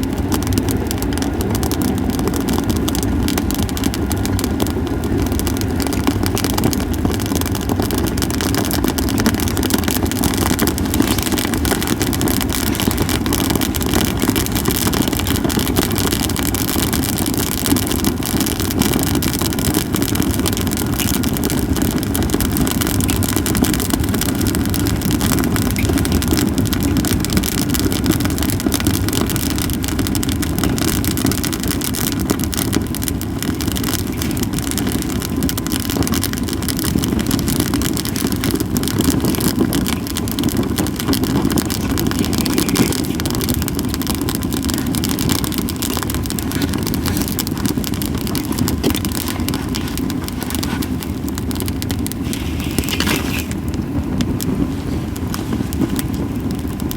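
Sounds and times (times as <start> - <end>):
firewood crackling and popping: 0.0 - 56.9
low rumble: 0.0 - 56.9.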